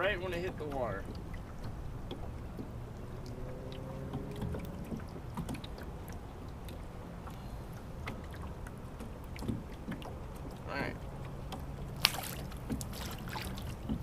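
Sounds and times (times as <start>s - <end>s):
light clicks and knocks: 0.0s - 14.0s
water sloshing against boat hull: 0.0s - 14.0s.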